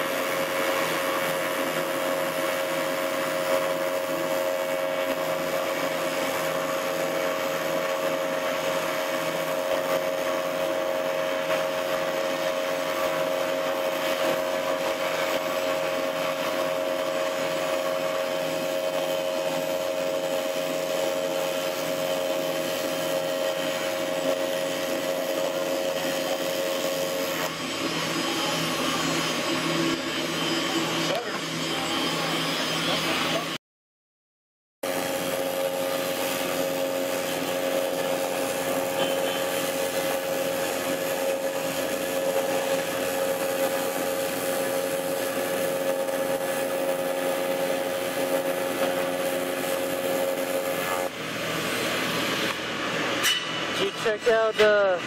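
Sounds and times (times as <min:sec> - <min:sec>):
welding arc buzz: 0:00.0 - 0:33.6, 0:34.8 - 0:55.0.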